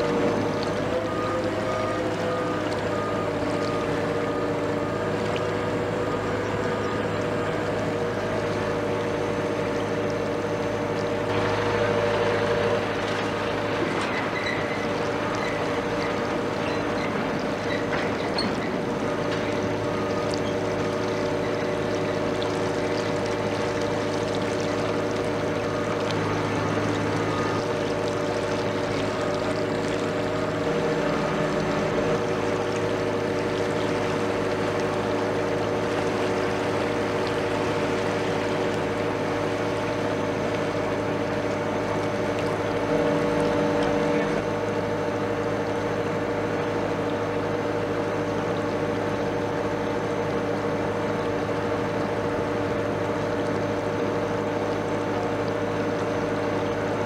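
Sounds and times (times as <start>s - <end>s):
ship diesel engine drone: 0.0s - 57.0s.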